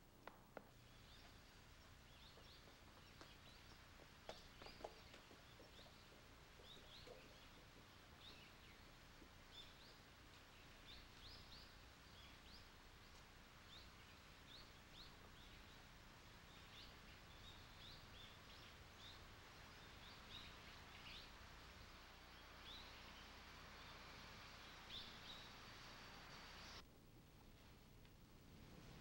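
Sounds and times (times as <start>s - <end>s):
low steady hiss: 0.0s - 29.0s
faint small birds chirping: 0.3s - 26.8s.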